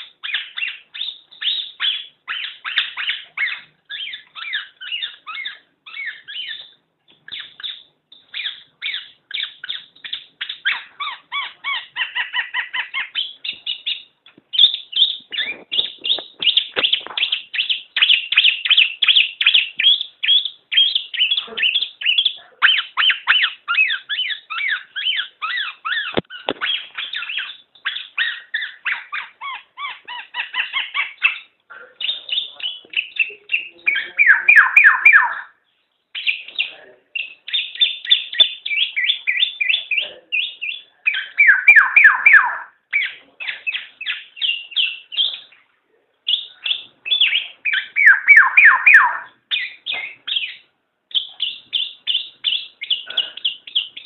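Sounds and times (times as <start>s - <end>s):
bird song with high chirping: 0.0s - 54.0s.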